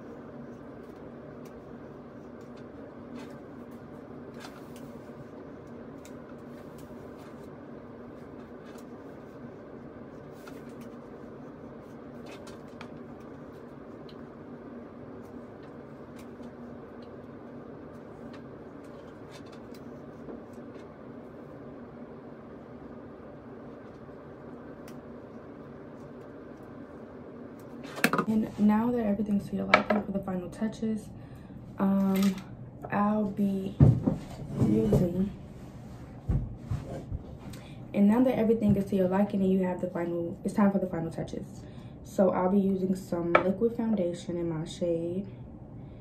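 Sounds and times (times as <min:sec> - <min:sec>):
room noise hum: 0:00.0 - 0:46.0.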